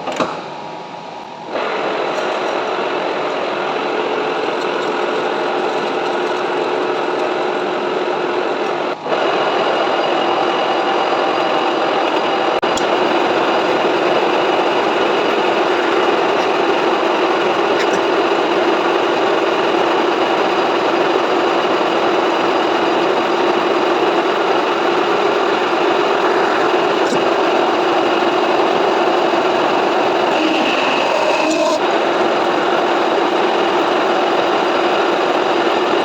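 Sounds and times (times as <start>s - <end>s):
metal lathe running: 0.0s - 36.0s.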